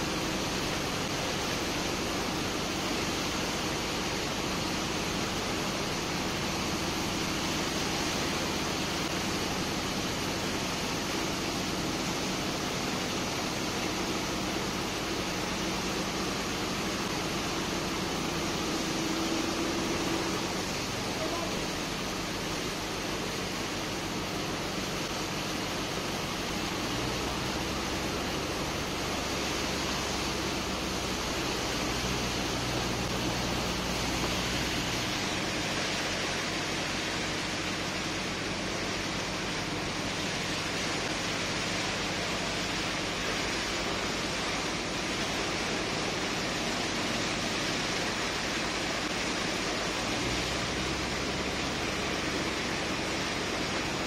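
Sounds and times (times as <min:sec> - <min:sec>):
low pump hum: 0:00.0 - 0:54.0
water jet blasting into sand: 0:00.0 - 0:54.0.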